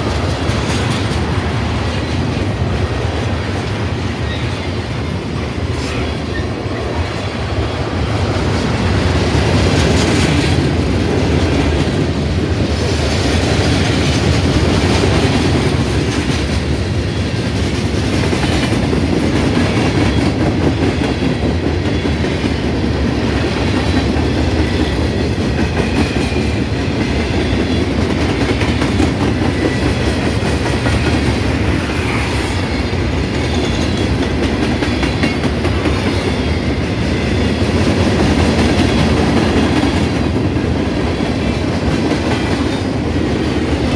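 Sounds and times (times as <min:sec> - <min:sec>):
train cars rolling on rails: 0:00.0 - 0:43.9.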